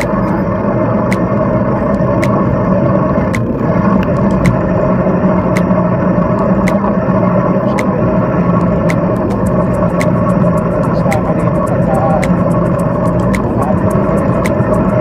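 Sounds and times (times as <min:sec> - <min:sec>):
bicycle tyre noise: 0:00.0 - 0:15.0
faint ticking: 0:00.0 - 0:15.0.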